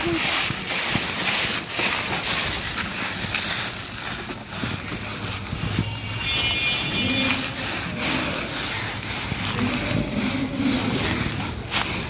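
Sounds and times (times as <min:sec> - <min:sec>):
child's footsteps in dry leaves: 0:00.0 - 0:12.0
plastic toy wheels on dry leaves: 0:00.0 - 0:12.0.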